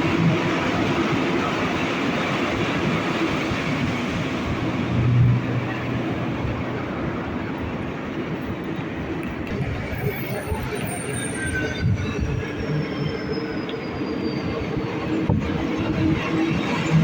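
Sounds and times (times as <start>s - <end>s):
train running with rumble: 0.0s - 17.0s.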